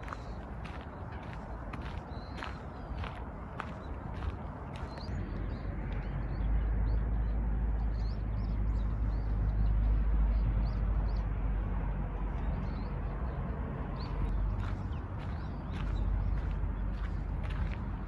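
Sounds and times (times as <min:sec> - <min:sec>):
small birds chirping: 0:00.0 - 0:11.2, 0:12.4 - 0:18.0.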